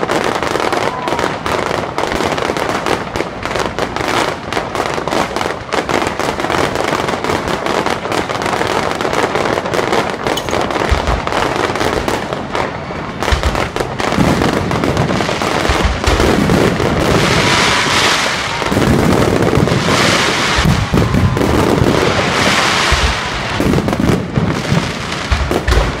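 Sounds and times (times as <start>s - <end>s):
fireworks crackling and popping: 0.0s - 26.0s
loud hissing crackle: 0.0s - 26.0s
deep firework booms: 0.8s - 26.0s.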